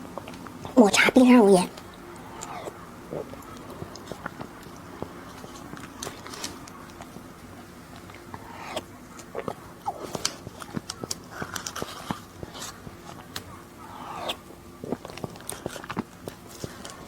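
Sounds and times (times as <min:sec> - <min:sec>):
biting and chewing with mouth clicks: 0:00.0 - 0:17.0.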